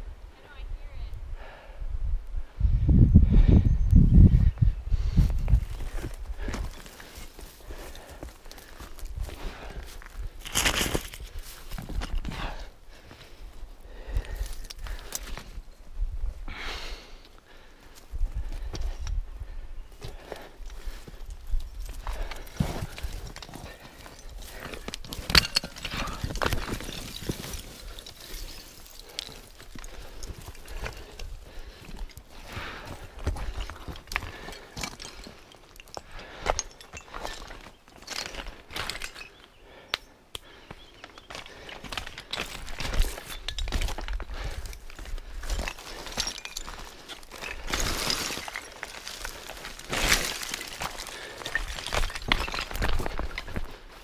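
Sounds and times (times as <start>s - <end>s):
scrambling on rocky slope: 5.1s - 15.9s, 16.5s - 54.0s.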